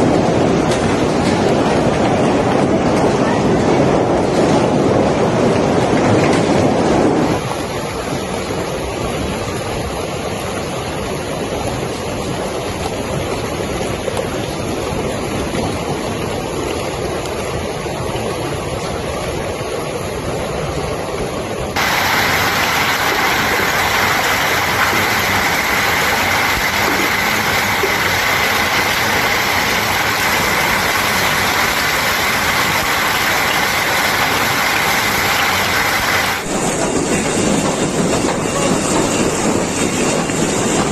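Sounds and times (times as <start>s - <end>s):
heavy rain and hail: 0.0s - 40.9s.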